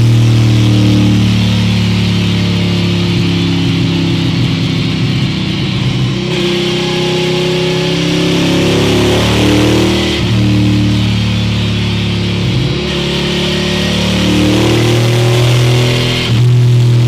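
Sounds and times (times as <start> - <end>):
motorcycle engine running loud: 0.0 - 17.0.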